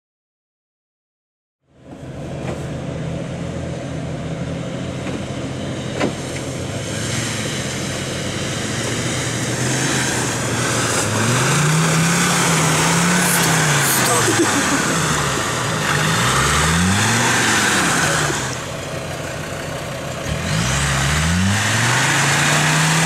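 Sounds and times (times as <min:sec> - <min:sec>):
off-road vehicle engine revving: 0:01.8 - 0:23.0.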